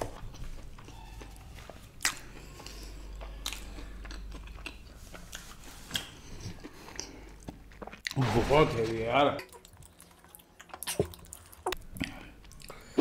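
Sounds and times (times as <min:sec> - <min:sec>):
close-up chewing: 0:00.0 - 0:08.2, 0:09.4 - 0:13.0.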